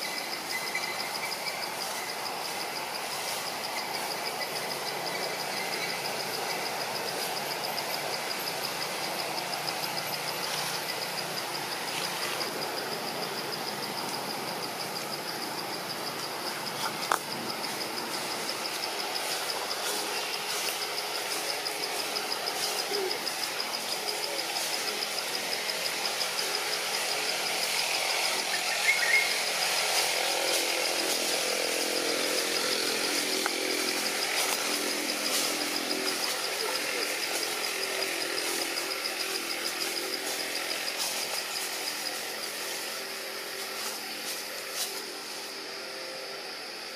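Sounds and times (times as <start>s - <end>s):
insects droning: 0.0s - 46.9s
low outdoor hum: 0.0s - 46.9s.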